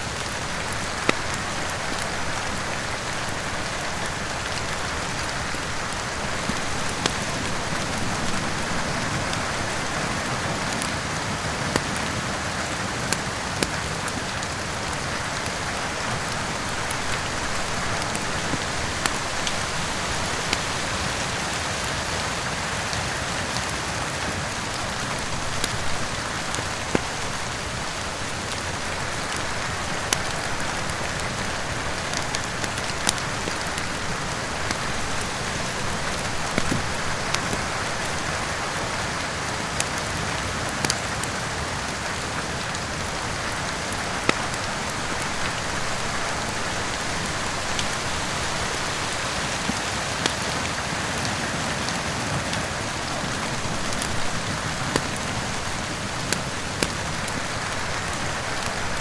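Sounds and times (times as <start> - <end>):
steady rain: 0.0 - 59.0
wood fire crackling and popping: 0.0 - 59.0.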